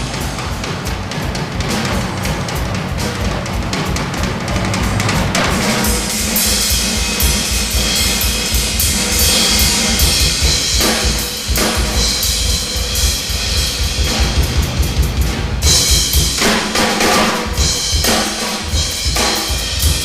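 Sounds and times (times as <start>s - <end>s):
bass drum and snare strokes: 0.0s - 20.0s
cymbals washing: 0.0s - 20.0s.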